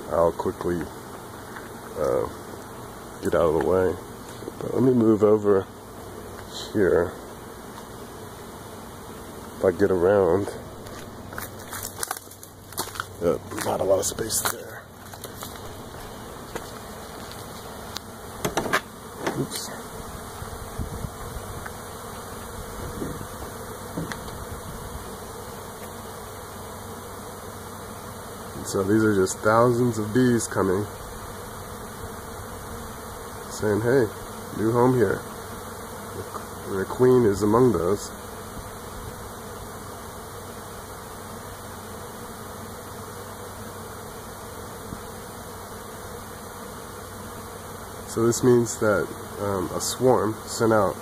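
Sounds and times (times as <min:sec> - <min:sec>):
bee swarm buzzing: 0:00.0 - 0:51.0.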